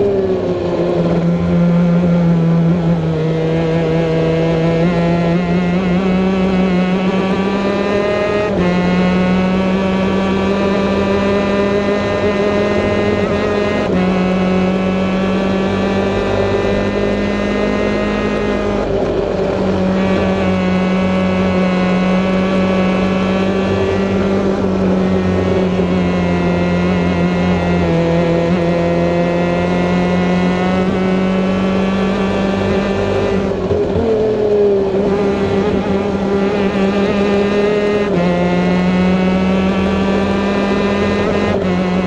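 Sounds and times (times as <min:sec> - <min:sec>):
kart engines buzzing at high revs: 0:00.0 - 0:42.0.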